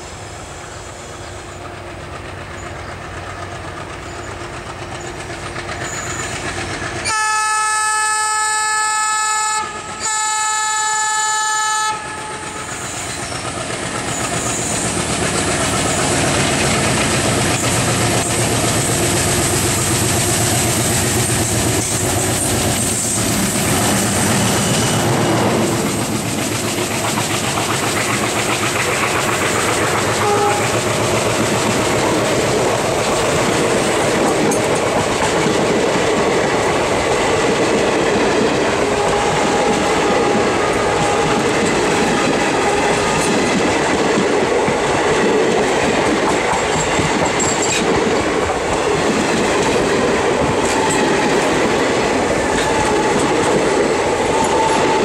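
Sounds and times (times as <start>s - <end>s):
train wheels clattering over rail joints: 0.8s - 7.2s, 11.6s - 55.0s.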